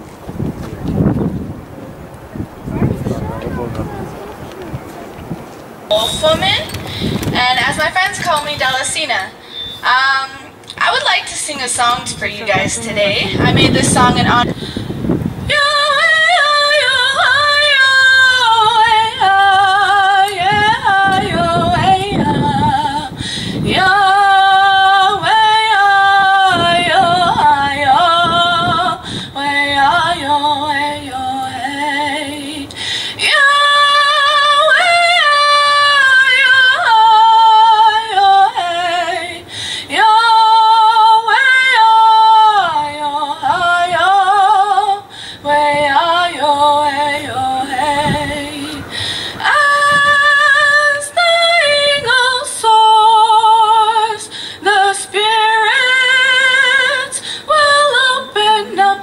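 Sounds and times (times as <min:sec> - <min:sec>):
woman singing into microphone: 0:05.9 - 0:59.0.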